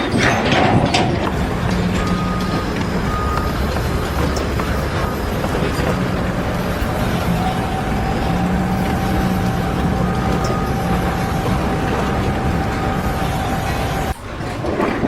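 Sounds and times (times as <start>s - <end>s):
large engine running: 0.0s - 15.0s
steady whine: 0.0s - 15.0s.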